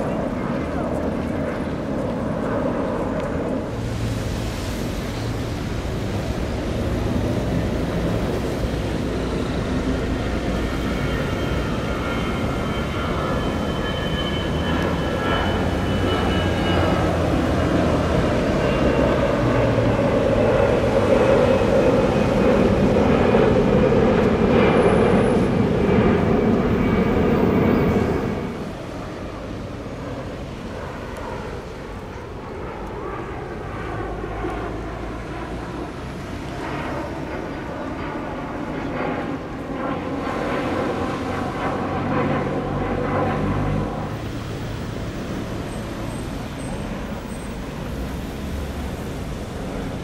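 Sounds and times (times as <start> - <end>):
jet engines roaring: 0.0 - 50.0
small jet passing overhead: 0.0 - 50.0.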